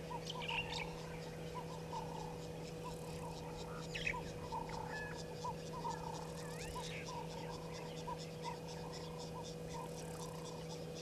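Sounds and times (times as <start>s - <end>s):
insects chirping: 0.0s - 11.0s
lower chirp: 0.0s - 11.0s
steady low hum: 0.0s - 11.0s.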